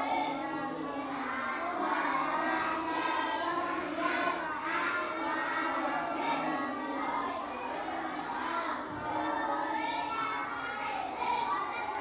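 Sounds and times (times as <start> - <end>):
children chanting together: 0.0 - 12.0.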